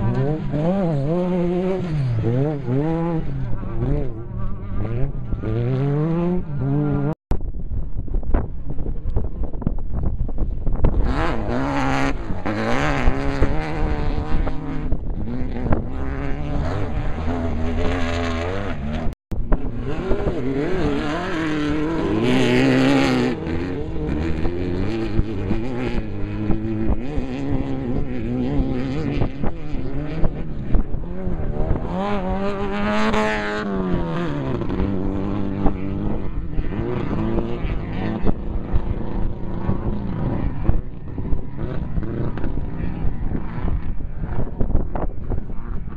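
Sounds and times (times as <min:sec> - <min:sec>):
race vehicle engine revving: 0:00.0 - 0:07.2, 0:10.8 - 0:45.9.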